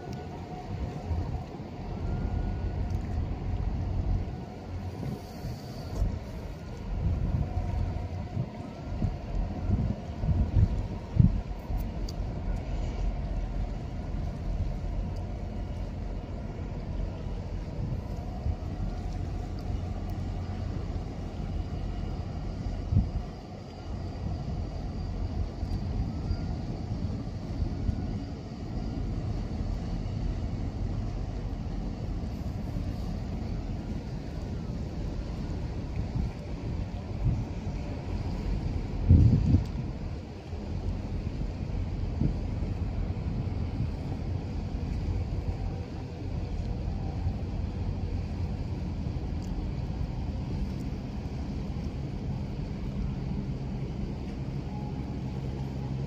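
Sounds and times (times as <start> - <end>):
ship engine rumble: 0.0 - 56.0
water noise: 0.0 - 56.0
wind: 0.0 - 56.0.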